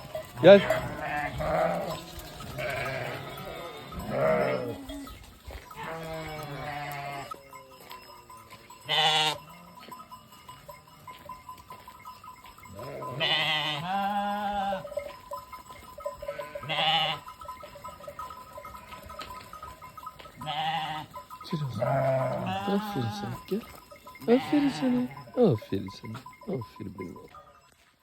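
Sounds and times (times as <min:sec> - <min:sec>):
sheep bleating: 0:00.0 - 0:11.2, 0:12.6 - 0:15.0, 0:16.0 - 0:27.6.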